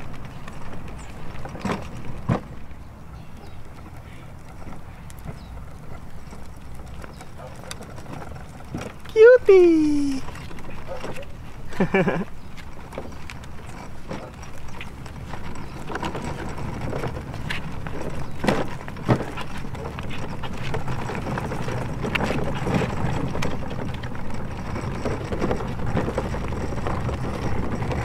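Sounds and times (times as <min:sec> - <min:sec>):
plastic toy wheels rolling on concrete: 0:00.0 - 0:28.0.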